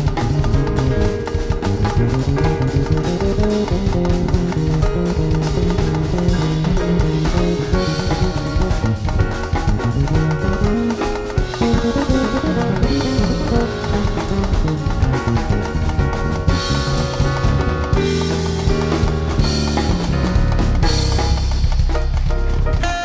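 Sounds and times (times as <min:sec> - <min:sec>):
drum kit hits and cymbals: 0:00.0 - 0:23.0
electric bass line: 0:00.0 - 0:23.0.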